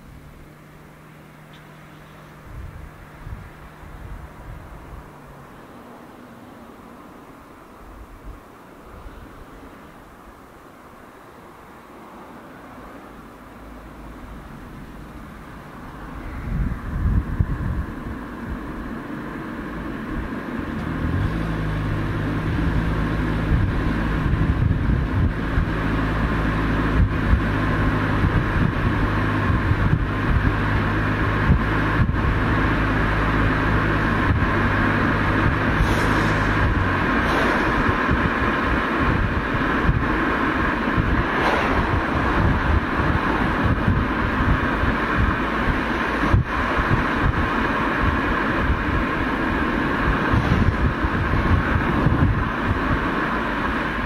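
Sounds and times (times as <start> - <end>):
car engine running steadily: 0.0 - 54.0
road and tyre noise: 0.0 - 54.0.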